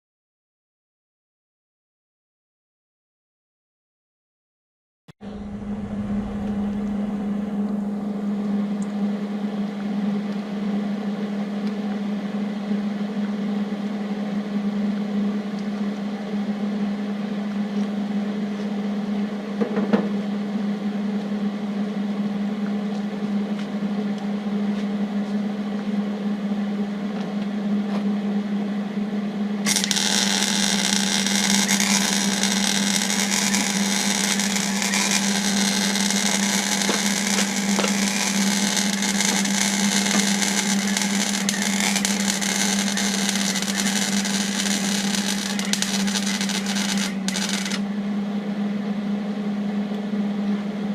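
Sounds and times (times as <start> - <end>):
machine hum: 5.2 - 50.9.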